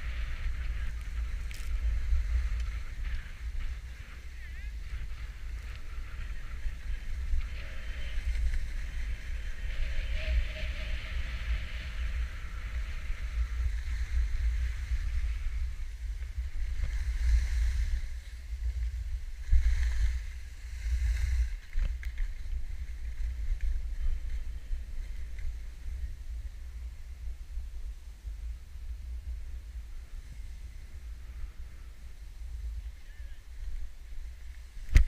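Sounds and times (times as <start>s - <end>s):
snowboard sliding over snow: 0.0s - 35.0s
wind buffeting microphone: 0.0s - 35.0s.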